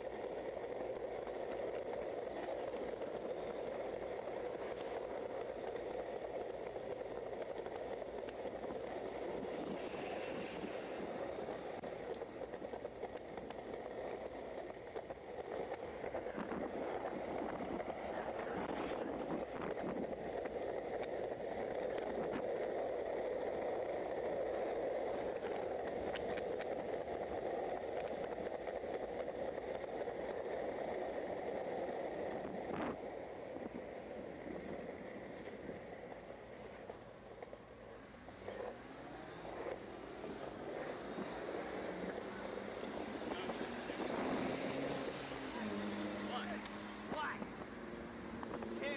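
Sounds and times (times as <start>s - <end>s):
skateboard wheels rolling on pavement: 0.0s - 48.9s.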